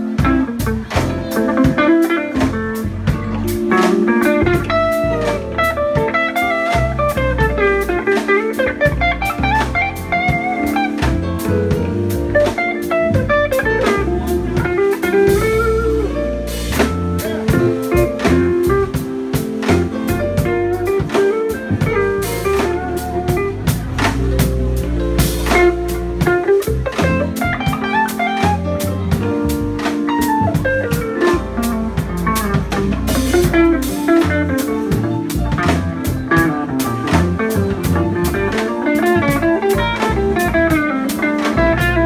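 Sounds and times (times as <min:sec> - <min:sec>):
electric guitar lead line: 0:00.0 - 0:42.0
live rock band playing: 0:00.0 - 0:42.0.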